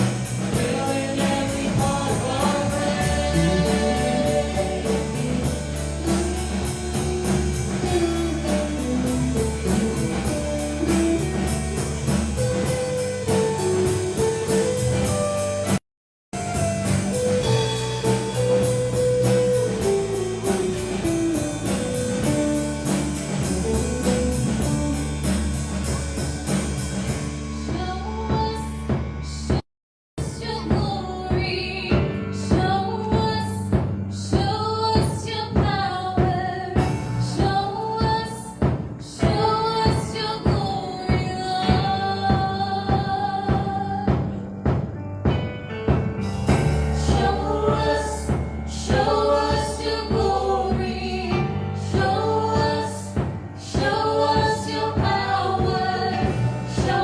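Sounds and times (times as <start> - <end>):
rock music with singing: 0.0 - 15.8, 16.4 - 29.6, 30.2 - 44.6, 45.2 - 57.0.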